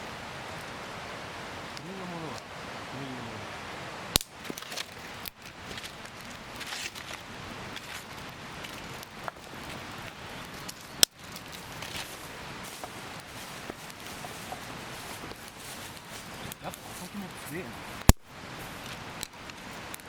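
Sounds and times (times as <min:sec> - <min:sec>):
campfire crackling: 0:00.0 - 0:20.0
fire snapping loudly: 0:01.6 - 0:03.4, 0:04.1 - 0:20.0.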